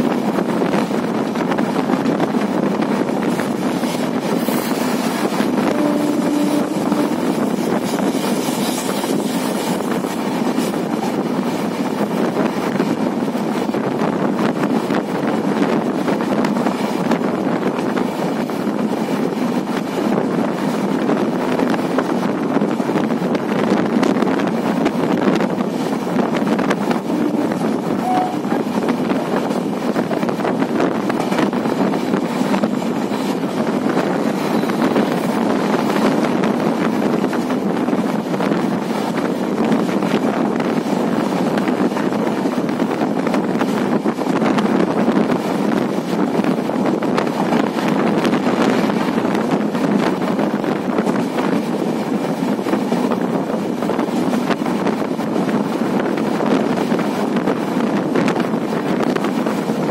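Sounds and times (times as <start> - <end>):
train rumble: 0.0 - 59.9
wind rushing on microphone: 0.0 - 59.9.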